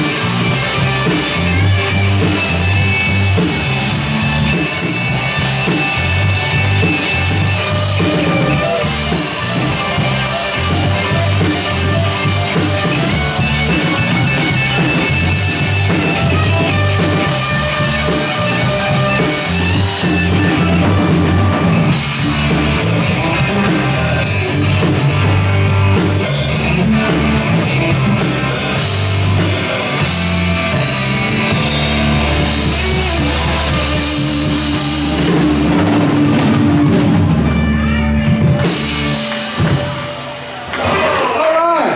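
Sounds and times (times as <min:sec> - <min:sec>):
drum kit: 0:00.0 - 0:41.2
live rock band playing: 0:00.0 - 0:41.8.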